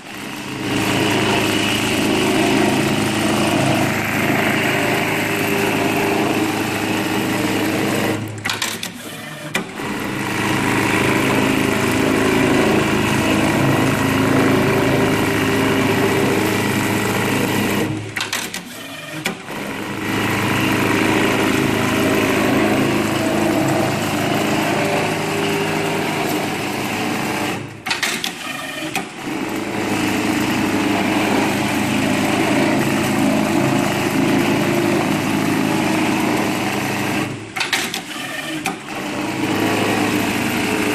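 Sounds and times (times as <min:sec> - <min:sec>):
sewing machine stitching: 0:00.0 - 0:40.9.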